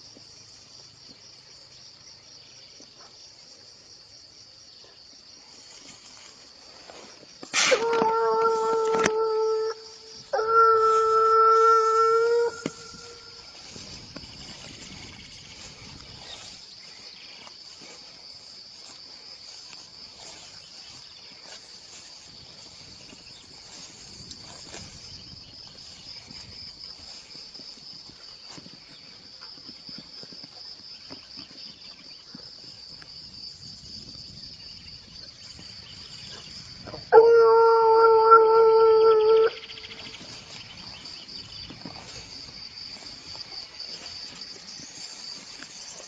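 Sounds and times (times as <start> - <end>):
high insect chorus: 0.0 - 46.0.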